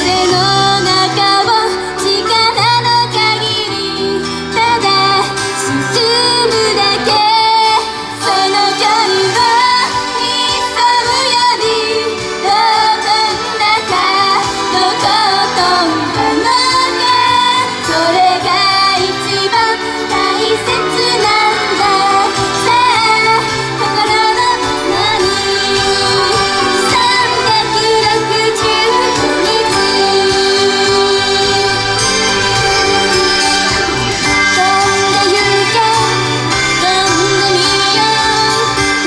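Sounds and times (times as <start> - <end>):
band backing music: 0.0 - 39.0
women singing pop song: 0.0 - 39.0.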